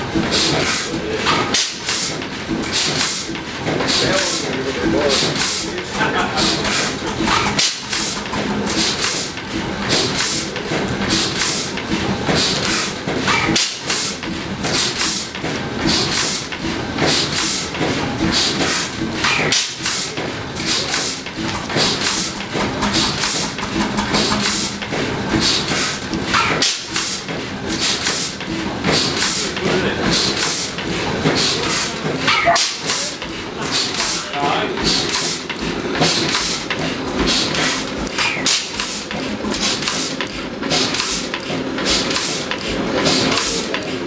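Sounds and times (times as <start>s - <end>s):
stationary engine hiss and clatter: 0.0s - 44.0s.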